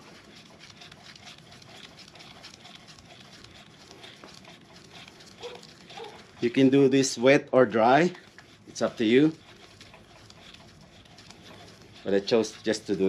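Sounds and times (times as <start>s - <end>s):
abrasive strip rubbing on metal: 0.0s - 13.0s.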